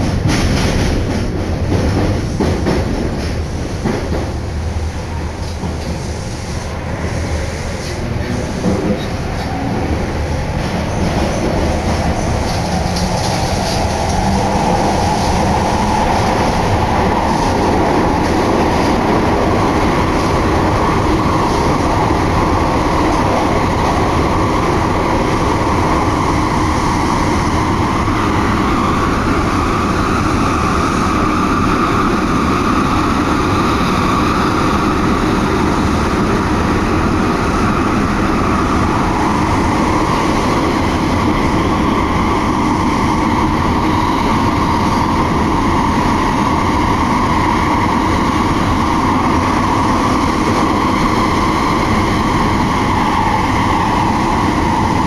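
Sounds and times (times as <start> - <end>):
subway train rumble and rush: 0.0 - 55.0.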